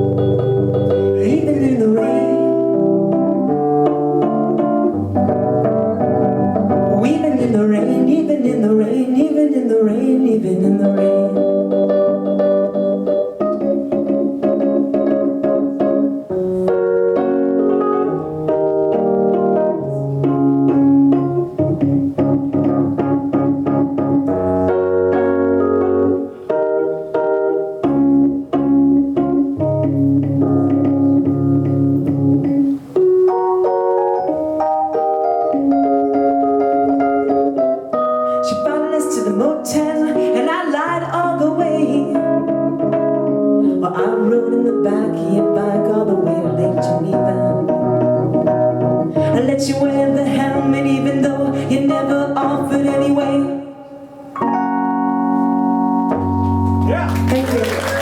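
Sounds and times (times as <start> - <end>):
keyboard chords and melody: 0.0 - 8.6, 10.6 - 58.0
live band music: 0.0 - 8.8, 10.5 - 53.2, 54.1 - 58.0.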